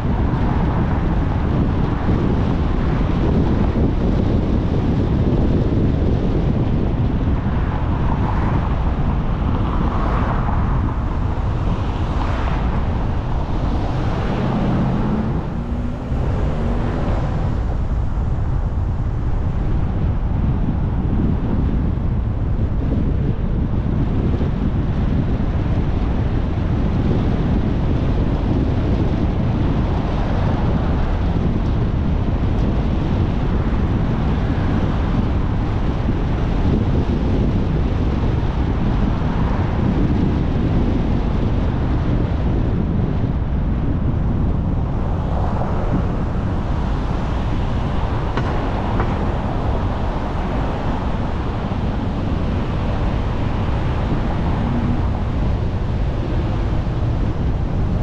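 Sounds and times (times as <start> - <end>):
car tyre and road noise: 0.0 - 58.0
wind noise on microphone: 0.0 - 58.0.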